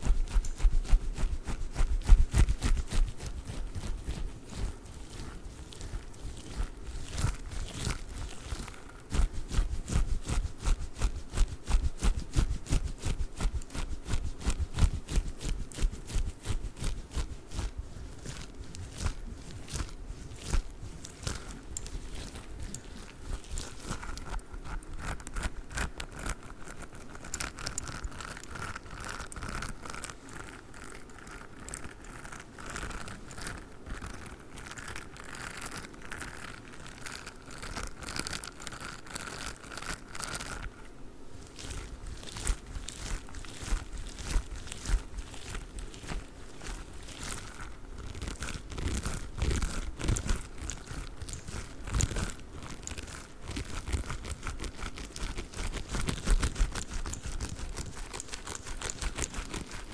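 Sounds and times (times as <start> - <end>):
squishy toy tapping and scratching: 0.0 - 40.8, 41.5 - 59.9.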